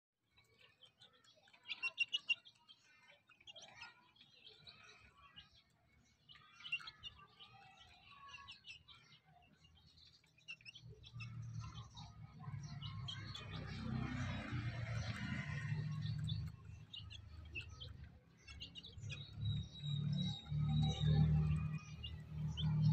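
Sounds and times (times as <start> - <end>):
birds chirping: 0.2 - 22.9.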